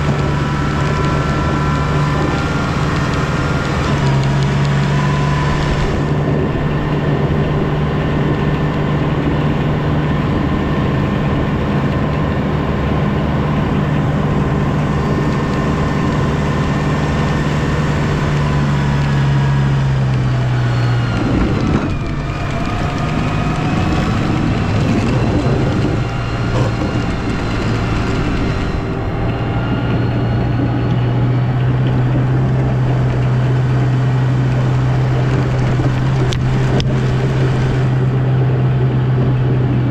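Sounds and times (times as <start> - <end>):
snow plow engine droning: 0.0 - 39.9.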